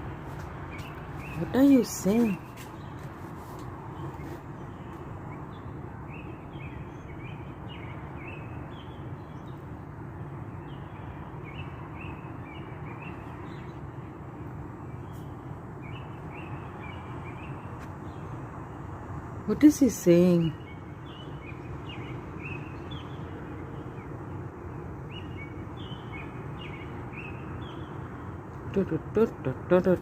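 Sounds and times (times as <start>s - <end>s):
bird chirping song: 0.6s - 30.0s.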